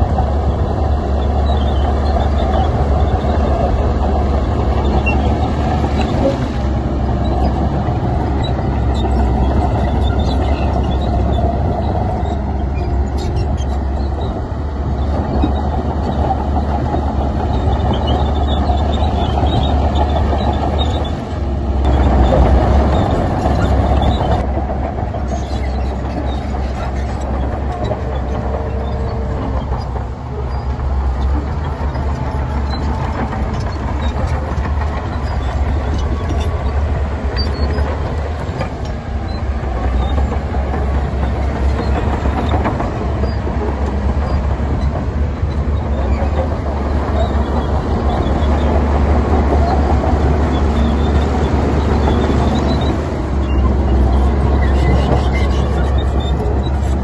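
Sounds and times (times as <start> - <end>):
low diesel rumble: 0.0 - 57.0.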